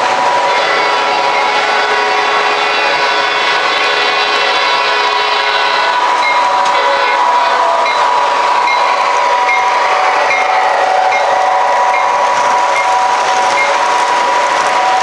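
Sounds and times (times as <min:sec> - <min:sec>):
model train rumbling past: 0:00.0 - 0:15.0.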